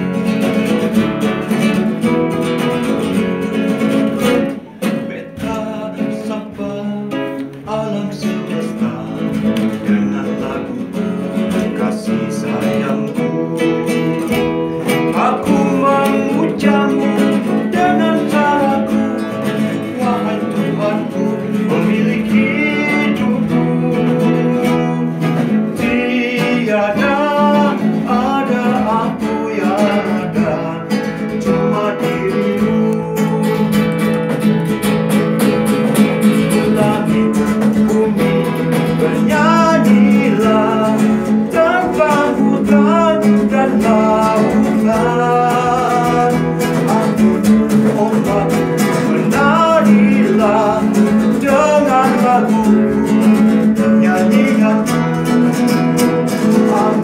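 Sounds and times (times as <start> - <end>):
man singing: 0.0 - 34.4, 36.2 - 57.0
acoustic guitar strumming: 0.0 - 57.0.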